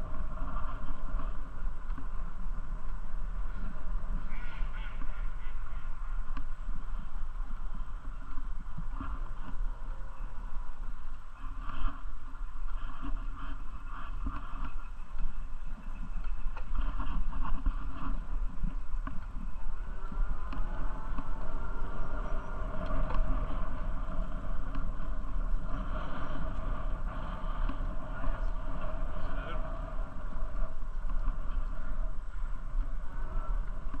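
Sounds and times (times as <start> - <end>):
bicycle riding noise: 0.0 - 34.0
faint gliding pitched sounds: 0.0 - 34.0
wind: 0.0 - 34.0.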